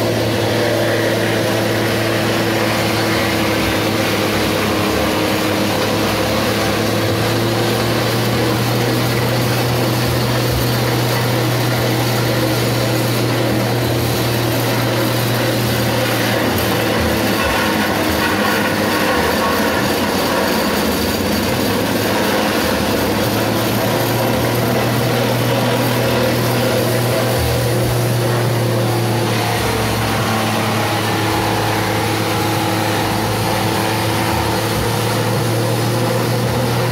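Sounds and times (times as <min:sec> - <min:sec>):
feed chopper whirring: 0:00.0 - 0:36.9.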